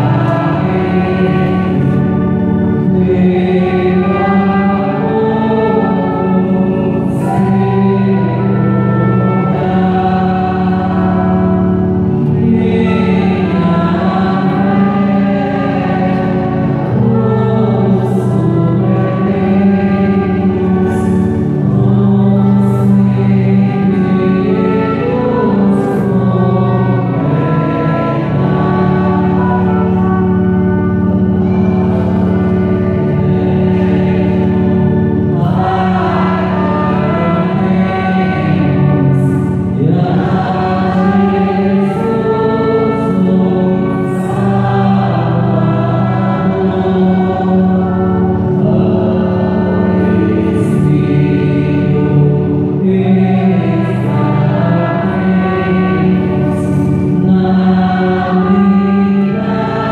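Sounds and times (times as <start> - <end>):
electronic keyboard chords: 0.0 - 59.9
trumpet: 0.0 - 59.9
voices singing a hymn: 0.0 - 59.9.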